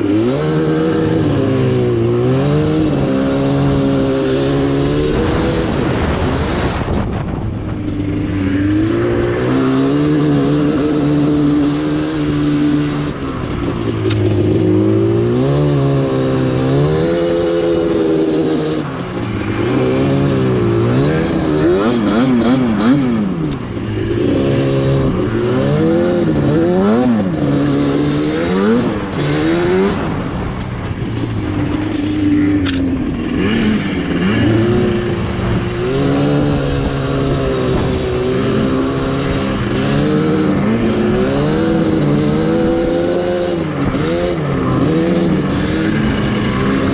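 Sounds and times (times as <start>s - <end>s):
two-stroke engine revving: 0.0s - 46.9s.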